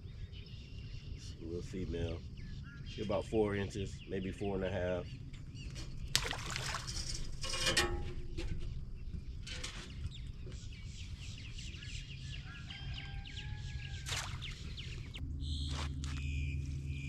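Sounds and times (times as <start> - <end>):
birds chattering calls: 0.0 - 7.1, 8.9 - 17.0.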